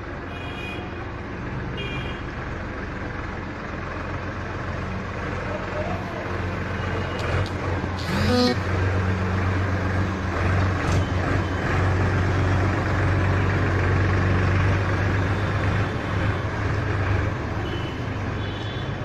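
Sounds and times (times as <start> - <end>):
diesel tractor engine running: 1.1 - 19.0.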